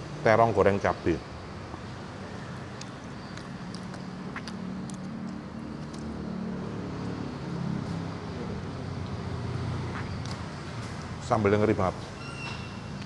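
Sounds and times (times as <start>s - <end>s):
engine hum of passing vehicles: 0.0s - 13.0s.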